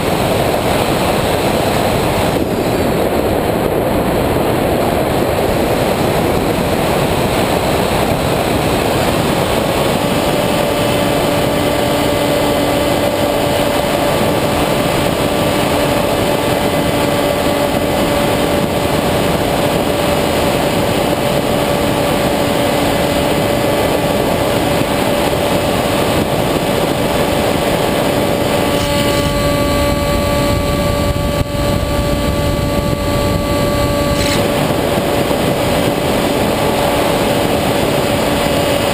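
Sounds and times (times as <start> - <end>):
electric propeller whine: 0.0 - 38.9
wind rushing: 0.0 - 38.9.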